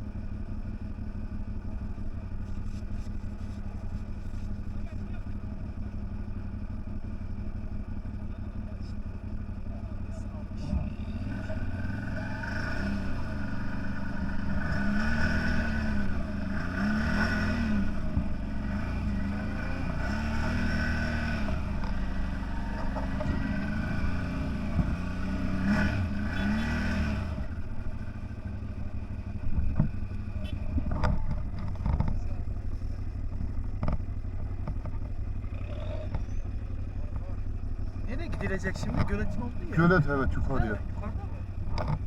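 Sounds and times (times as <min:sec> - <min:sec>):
off-road vehicle engine revving: 0:08.2 - 0:42.0.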